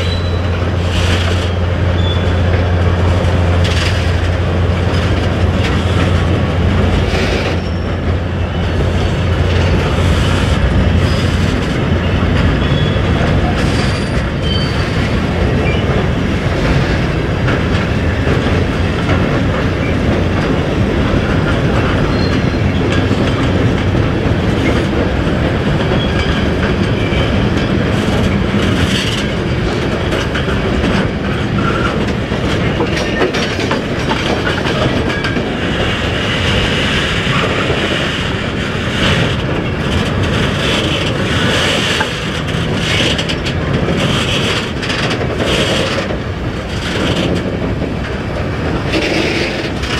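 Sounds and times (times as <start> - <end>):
freight train wheels rumbling: 0.0 - 49.9.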